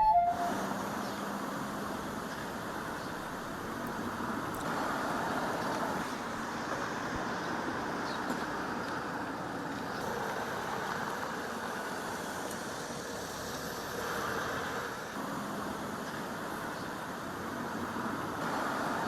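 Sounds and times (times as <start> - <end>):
car driving road noise: 1.0 - 19.0.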